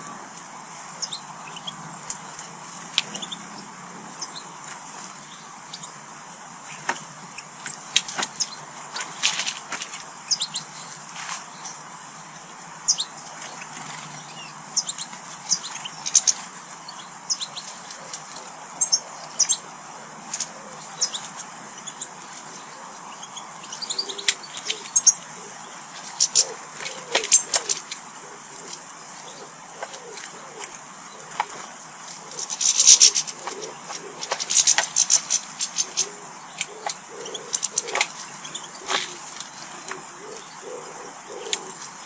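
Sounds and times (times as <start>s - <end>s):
small birds chirping: 0.0s - 42.0s
steady background hiss: 0.0s - 42.0s.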